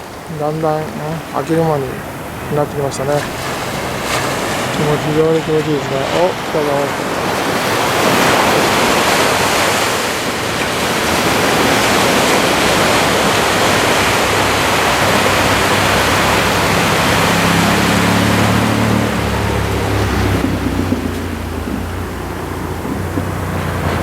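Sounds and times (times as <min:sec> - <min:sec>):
ocean surf breaking: 0:00.0 - 0:24.0.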